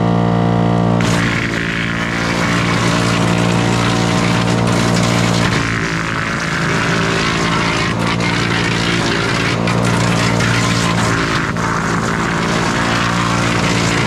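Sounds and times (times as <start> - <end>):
wood chipper grinding wood: 0.0 - 14.0.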